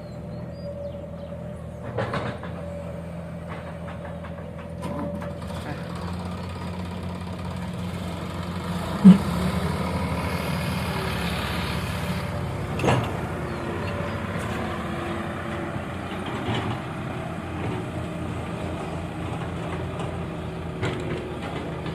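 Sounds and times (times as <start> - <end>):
diesel engines running: 0.0 - 21.9.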